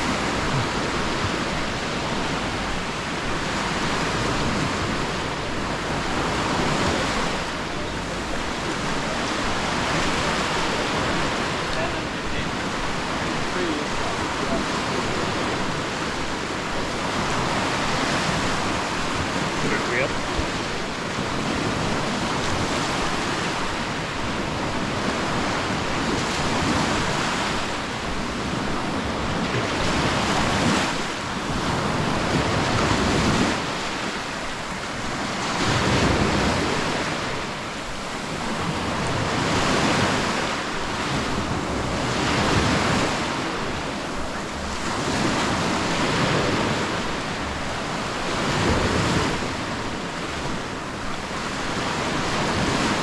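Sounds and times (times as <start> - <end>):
sea waves breaking: 0.0 - 53.0
wind rumbling on microphone: 0.0 - 53.0.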